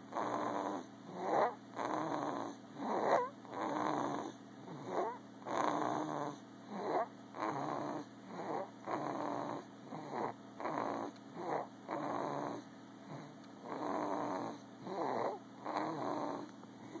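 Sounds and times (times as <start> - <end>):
snoring: 0.1 - 17.0.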